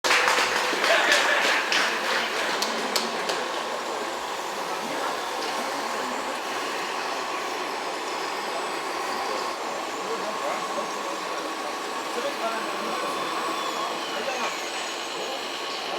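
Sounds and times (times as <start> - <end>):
small electric motor whining: 1.6 - 15.9.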